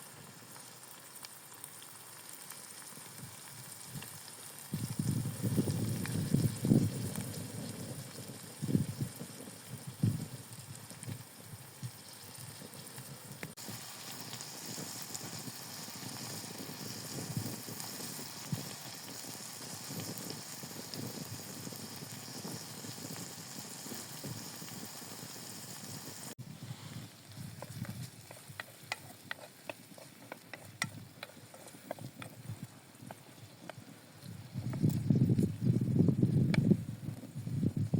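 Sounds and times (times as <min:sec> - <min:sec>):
light crackles and ticks: 0:00.0 - 0:05.0, 0:05.9 - 0:24.9, 0:26.9 - 0:35.5
food sizzling in a frying pan: 0:00.0 - 0:37.9.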